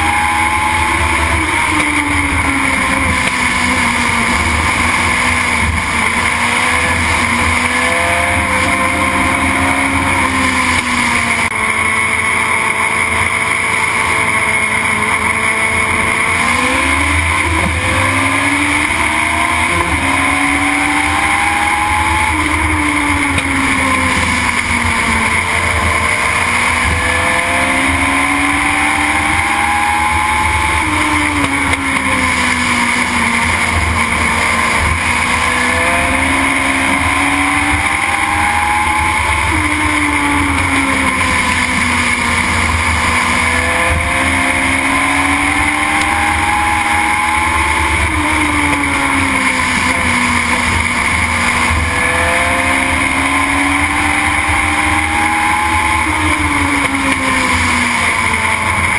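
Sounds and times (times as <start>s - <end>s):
racing car engine revving: 0.0s - 58.9s
wind and road noise: 0.0s - 58.9s.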